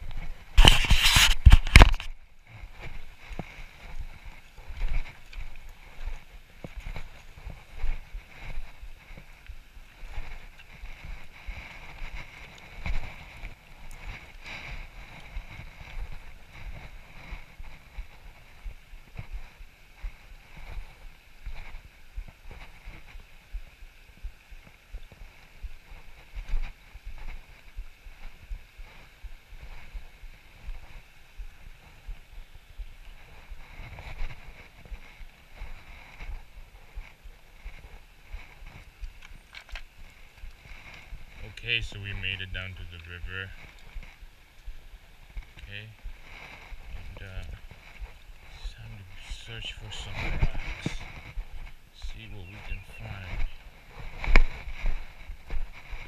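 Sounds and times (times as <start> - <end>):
footsteps on loose stones: 0.0 - 56.0
wind buffeting microphone: 0.0 - 56.0.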